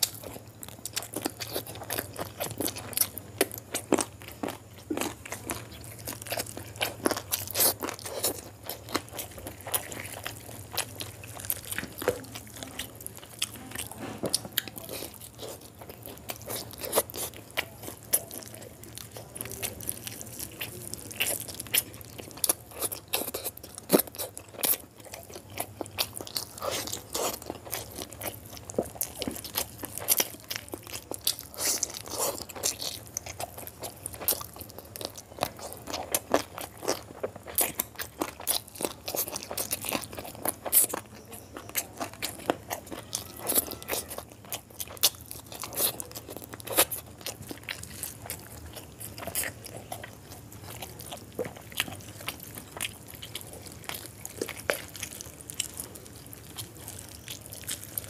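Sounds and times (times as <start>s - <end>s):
wet chewing smacks and clicks: 0.0s - 58.0s.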